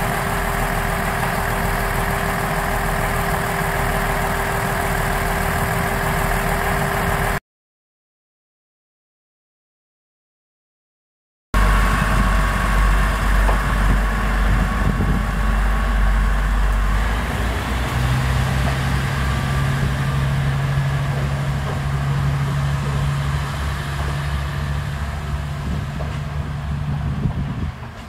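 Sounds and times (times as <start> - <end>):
diesel railcar engine drone: 0.0 - 7.4, 11.6 - 28.0.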